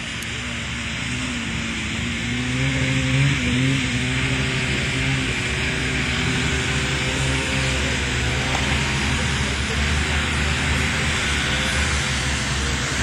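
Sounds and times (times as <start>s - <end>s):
snowmobile engine running: 0.0s - 13.0s.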